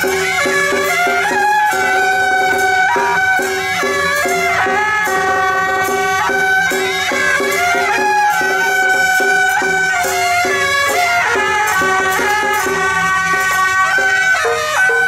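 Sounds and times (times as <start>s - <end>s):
double-reed horns playing melody: 0.0s - 15.0s.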